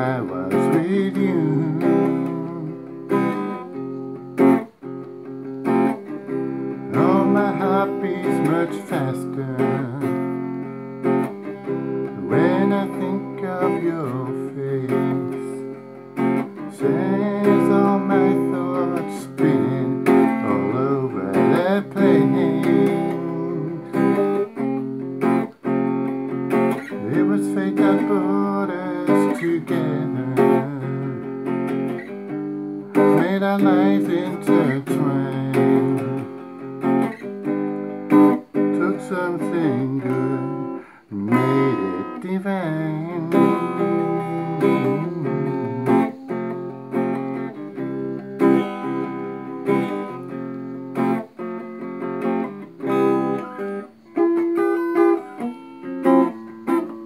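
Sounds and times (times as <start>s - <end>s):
clean electric guitar ballad: 0.0s - 57.0s.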